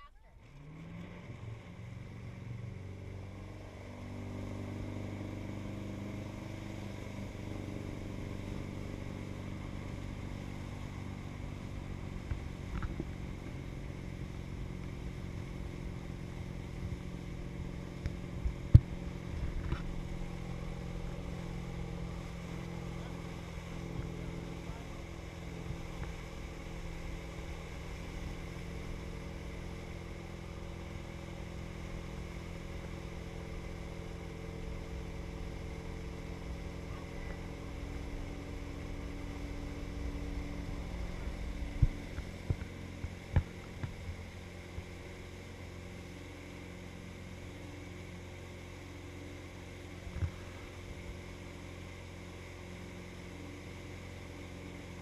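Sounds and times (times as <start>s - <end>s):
motorboat engine running: 0.0s - 55.0s
rush of boat wake: 0.0s - 55.0s.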